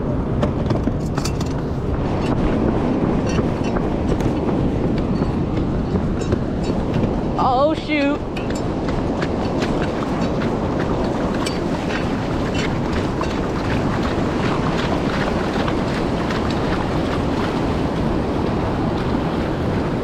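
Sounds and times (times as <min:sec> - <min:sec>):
ocean surf washing: 0:00.0 - 0:20.0
wind buffeting microphone: 0:00.0 - 0:20.0.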